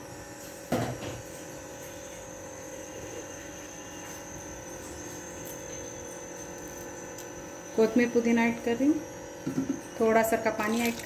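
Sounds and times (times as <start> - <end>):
steady buzzing hum: 0.0 - 11.0.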